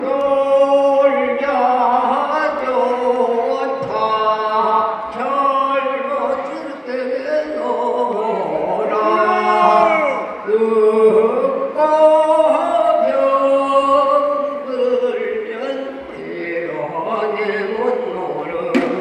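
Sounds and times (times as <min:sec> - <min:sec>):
men singing folk song together: 0:00.0 - 0:19.0.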